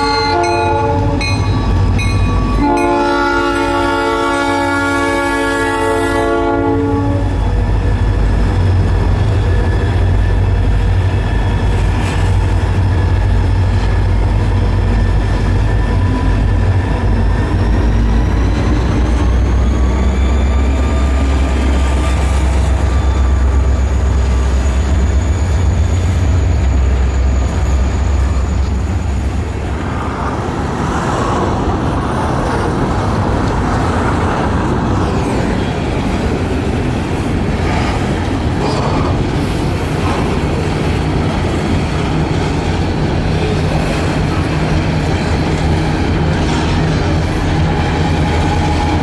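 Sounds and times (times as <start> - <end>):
diesel locomotives rumbling: 0.0 - 49.0
hopper cars rolling: 7.3 - 49.0.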